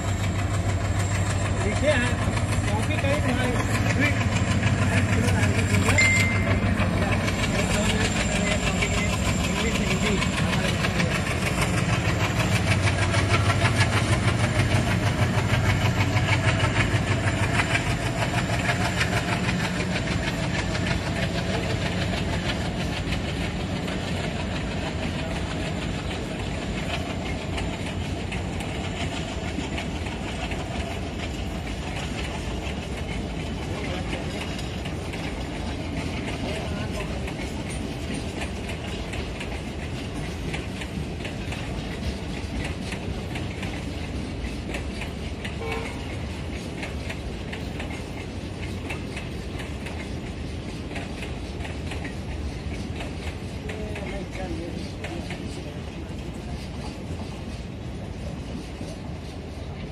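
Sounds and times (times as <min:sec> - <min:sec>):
locomotive engine drone: 0:00.0 - 0:59.9
train wheels clicking over rails: 0:00.0 - 0:59.9.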